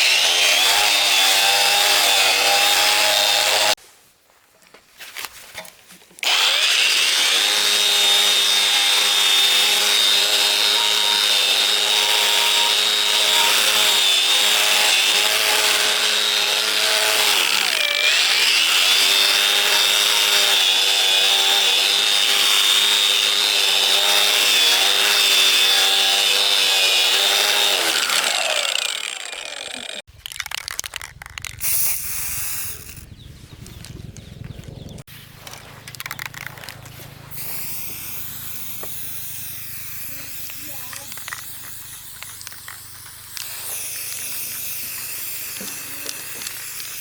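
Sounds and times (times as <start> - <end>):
power tool whining under load: 0.0 - 3.8, 6.2 - 30.1, 35.9 - 47.0.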